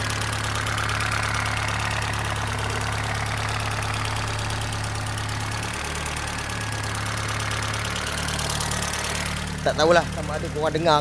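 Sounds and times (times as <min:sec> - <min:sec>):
car engine idling roughly: 0:00.0 - 0:11.0.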